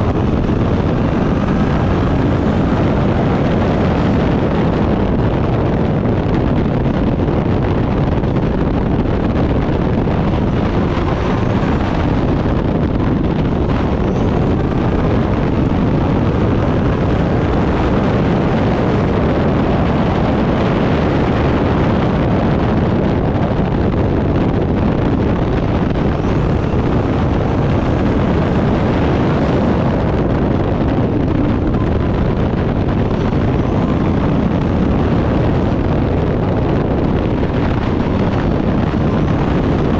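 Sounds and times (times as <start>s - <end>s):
racing car engine roaring: 0.0s - 39.9s.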